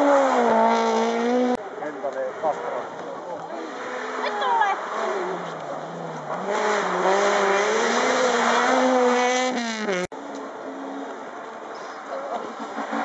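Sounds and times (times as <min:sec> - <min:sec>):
rally car engine at high revs: 0:00.0 - 0:01.6, 0:02.5 - 0:13.0.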